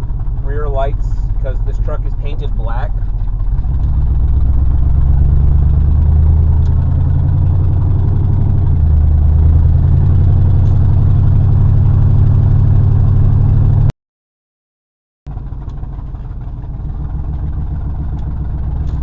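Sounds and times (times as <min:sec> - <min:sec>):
truck engine and road noise: 0:00.0 - 0:13.9, 0:15.3 - 0:19.0.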